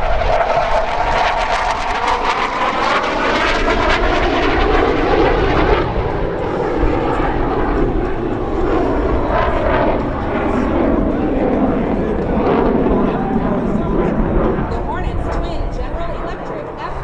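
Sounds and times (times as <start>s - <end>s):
jet engines roaring past: 0.0s - 17.0s.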